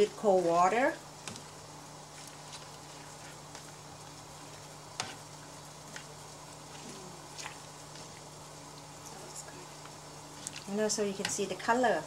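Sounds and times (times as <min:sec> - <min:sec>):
utensil stirring greens in saucepan: 0:00.0 - 0:12.0.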